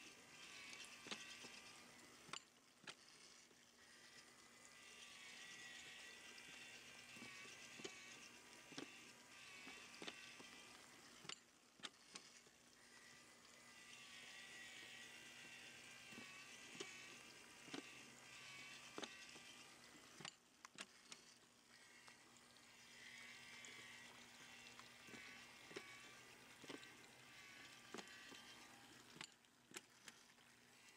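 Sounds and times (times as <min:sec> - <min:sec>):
small clicks: 0:00.0 - 0:30.9.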